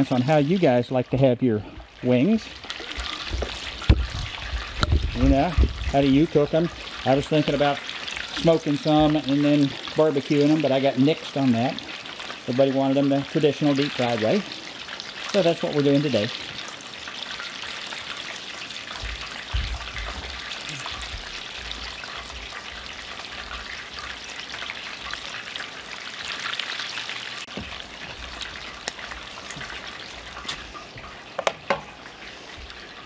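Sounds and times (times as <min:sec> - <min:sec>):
deep-frying sizzle in oil: 0:00.0 - 0:33.0.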